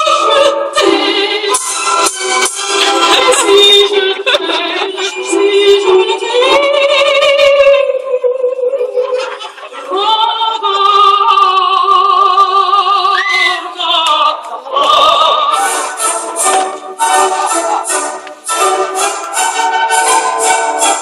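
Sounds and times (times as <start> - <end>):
woman singing operatically: 0.0 - 9.2, 9.8 - 17.6.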